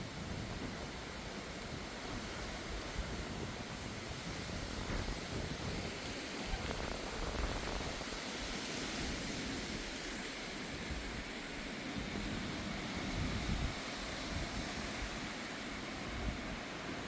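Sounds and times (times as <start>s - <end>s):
gusty wind rushing: 0.0s - 16.6s
wind buffeting microphone: 0.0s - 17.0s.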